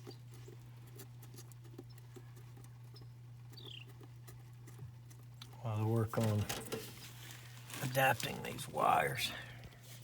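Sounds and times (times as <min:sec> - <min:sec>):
clicks and rustles of wires: 0:00.0 - 0:08.5
steady low hum: 0:00.0 - 0:10.0.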